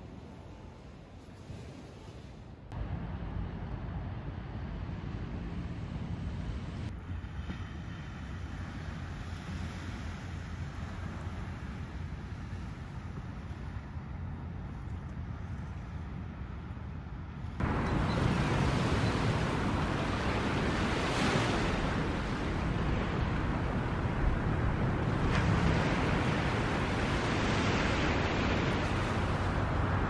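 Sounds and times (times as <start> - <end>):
sea surf on a beach: 0.0 - 15.4, 17.3 - 30.0
wind rumbling on microphone: 0.0 - 30.0.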